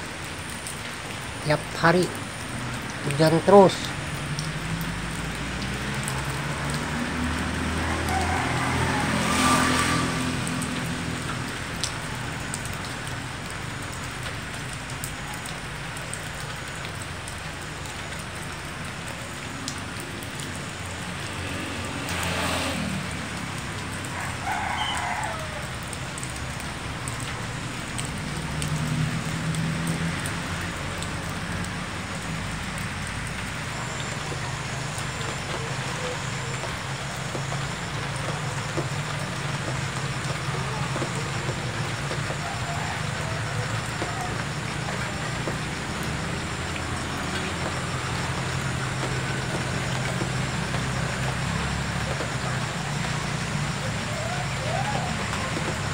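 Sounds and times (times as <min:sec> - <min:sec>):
vehicle passing: 0:00.9 - 0:55.9.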